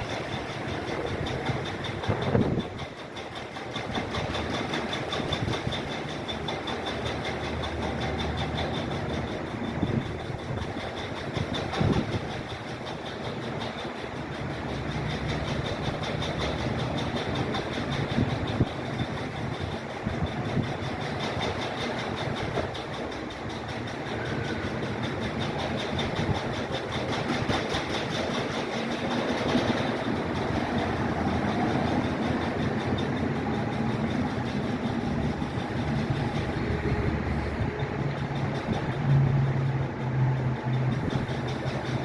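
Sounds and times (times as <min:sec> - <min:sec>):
fast even ticking: 0:00.0 - 0:42.0.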